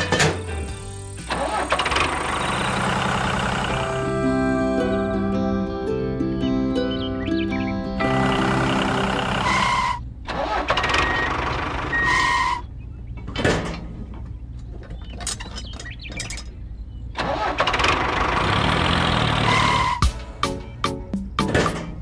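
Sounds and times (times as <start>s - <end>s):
tractor engine idling: 0.0s - 20.4s.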